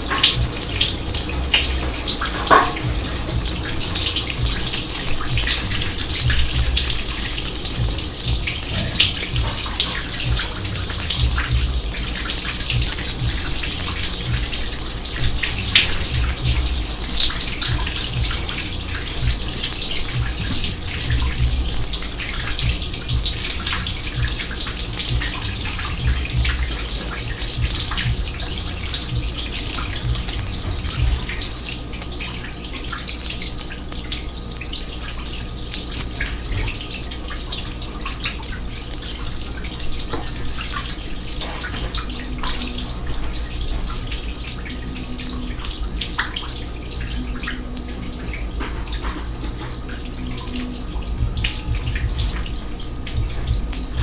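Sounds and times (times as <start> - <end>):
water running into sink: 0.0 - 54.0.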